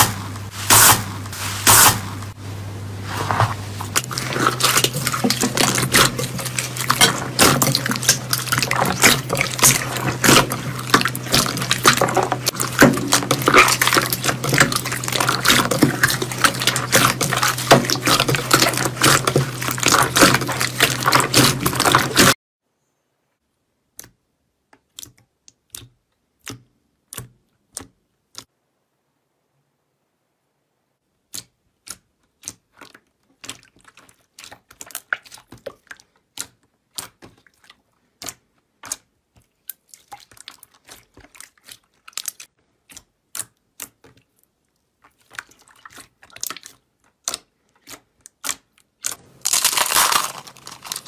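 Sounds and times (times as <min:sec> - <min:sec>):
slime crackling and squelching: 0:00.0 - 0:22.4, 0:31.2 - 0:51.0.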